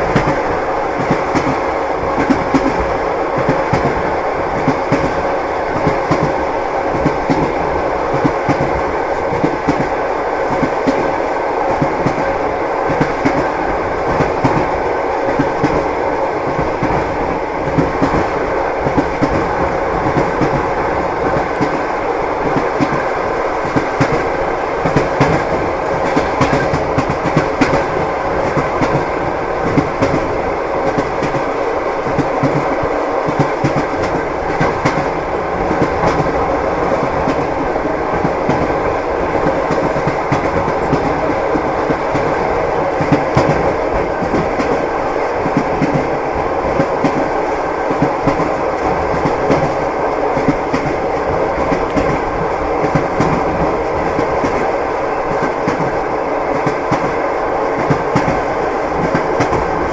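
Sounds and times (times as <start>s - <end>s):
train wheels clicking over rail joints: 0.0s - 54.7s, 57.8s - 59.9s
railway carriage rumble: 0.0s - 59.9s.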